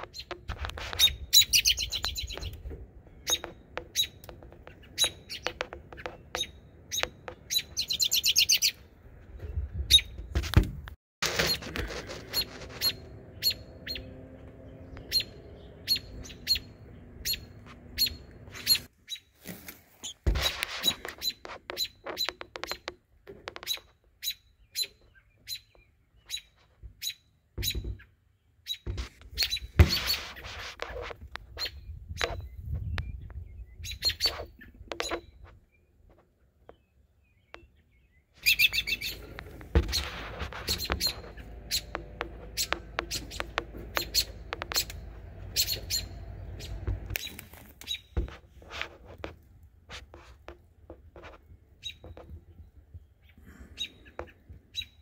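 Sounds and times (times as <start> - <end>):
small birds chirping: 0.0 - 10.2, 11.4 - 19.4, 20.0 - 48.3, 51.3 - 55.0.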